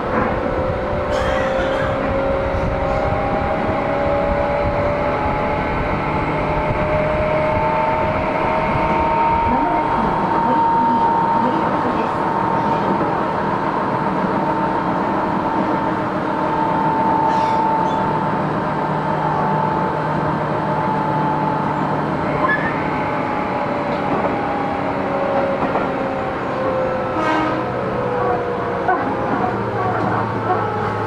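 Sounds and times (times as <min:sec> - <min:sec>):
train rumbling on rails: 0:00.0 - 0:31.0.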